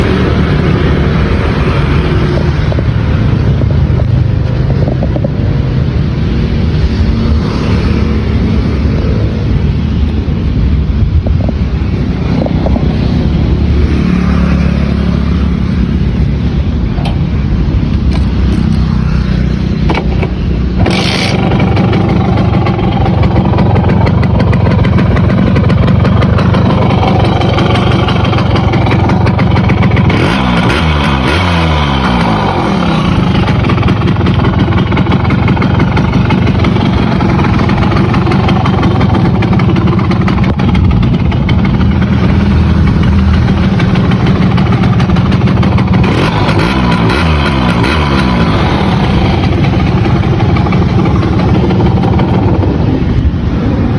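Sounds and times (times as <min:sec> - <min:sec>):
two-stroke engine running: 0:00.0 - 0:10.2, 0:11.1 - 0:53.9.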